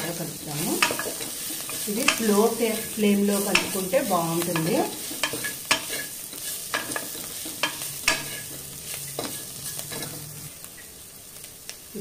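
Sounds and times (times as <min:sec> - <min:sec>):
food sizzling in ghee: 0:00.0 - 0:12.0
wooden spatula scraping metal pot: 0:00.5 - 0:10.5.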